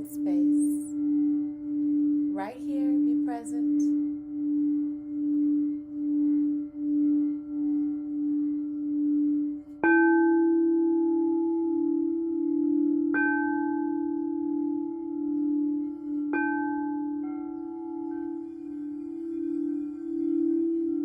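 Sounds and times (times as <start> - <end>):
low singing bowl tone: 0.0 - 21.0.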